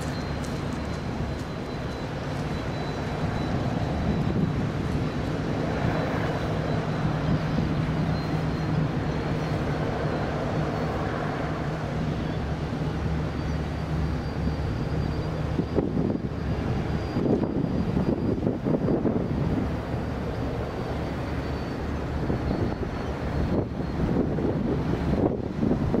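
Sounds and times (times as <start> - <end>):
faint high whine: 0.0 - 26.0
ship engines droning: 0.0 - 26.0.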